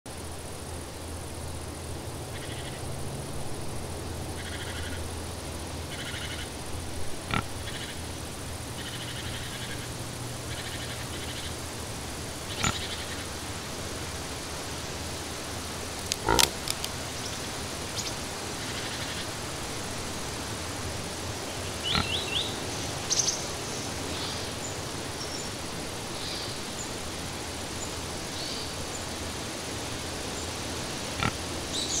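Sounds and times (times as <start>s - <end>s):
outdoor background hiss: 0.1s - 32.0s.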